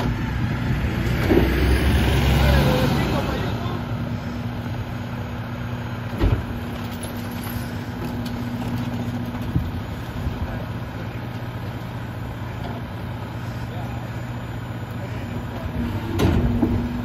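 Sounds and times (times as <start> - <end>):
garbage truck engine idling: 0.0 - 17.0.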